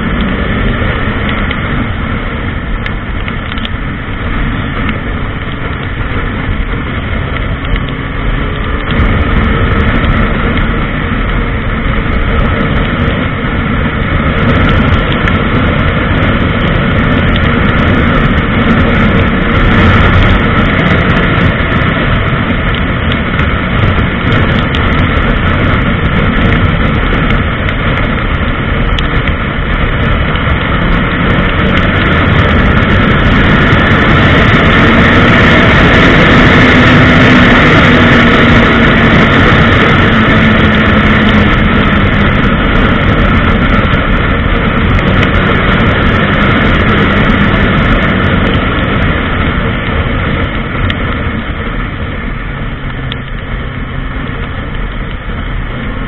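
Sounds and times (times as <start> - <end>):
motorcycle engine at high speed: 0.0 - 56.0
wind rushing: 0.0 - 56.0.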